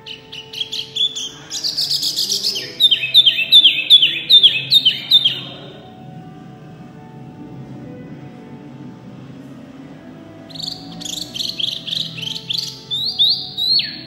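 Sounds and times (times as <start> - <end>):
songbird singing: 0.0 - 7.2, 9.2 - 14.0.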